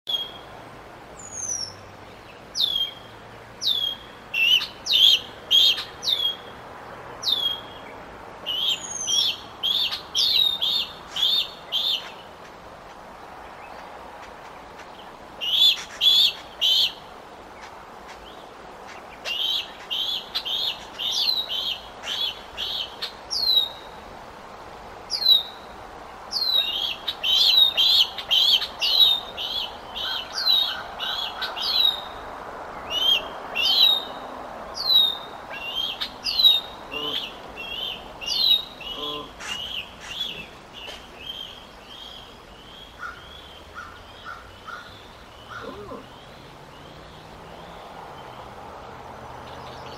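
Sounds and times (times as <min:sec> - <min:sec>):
high bird calls: 0:01.2 - 0:06.5, 0:08.5 - 0:12.5, 0:13.6 - 0:24.0, 0:26.3 - 0:32.2, 0:32.8 - 0:48.6.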